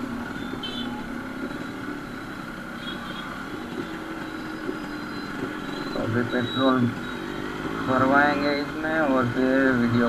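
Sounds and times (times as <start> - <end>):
two-stroke motorcycle engine running: 0.0 - 10.0.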